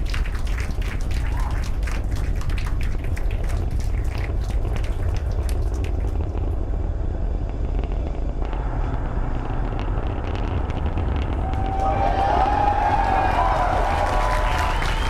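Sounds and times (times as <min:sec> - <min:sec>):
rocket engines rumbling and crackling: 0:00.0 - 0:15.0.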